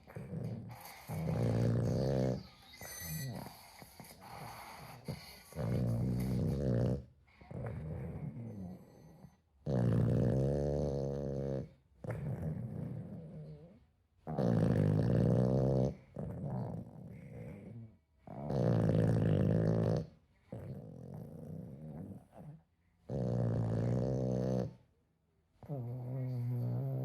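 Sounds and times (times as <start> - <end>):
pet snoring: 0.0 - 24.8, 25.6 - 27.0.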